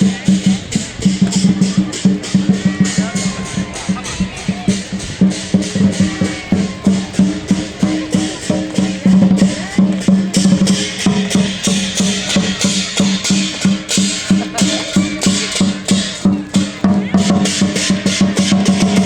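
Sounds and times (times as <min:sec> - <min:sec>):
fast percussive clicking beat: 0:00.0 - 0:19.0.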